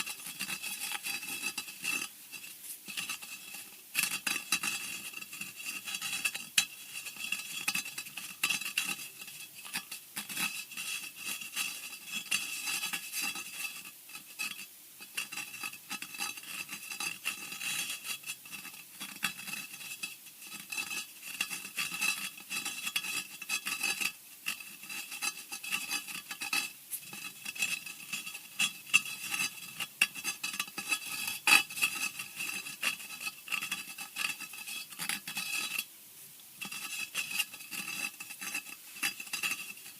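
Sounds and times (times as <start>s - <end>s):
rasping scratching and scraping: 0.0s - 35.9s, 36.6s - 39.9s.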